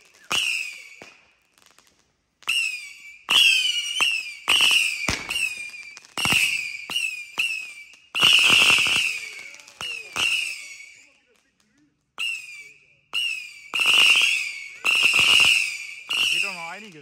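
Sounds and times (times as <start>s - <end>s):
whistling firework shots: 0.0s - 17.0s.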